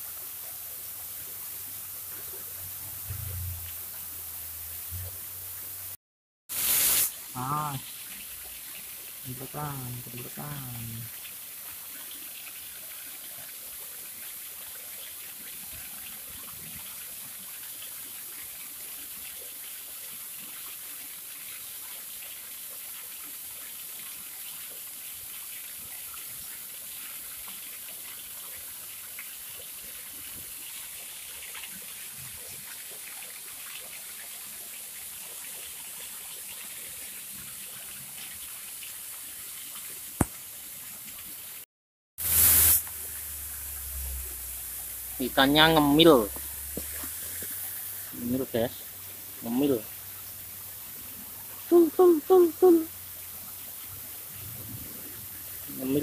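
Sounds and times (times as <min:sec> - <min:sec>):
steady outdoor hiss: 0:00.0 - 0:41.6, 0:42.2 - 0:56.0.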